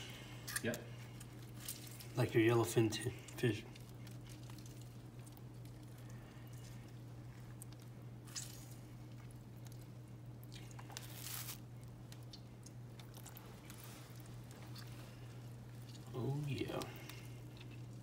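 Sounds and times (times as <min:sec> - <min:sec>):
steady low hum: 0:00.0 - 0:18.0
limes squished by hand: 0:03.3 - 0:18.0.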